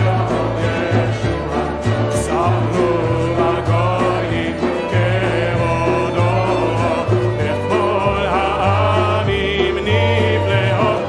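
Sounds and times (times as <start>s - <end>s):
congregation singing: 0.0s - 11.0s
double bass notes: 0.0s - 11.0s.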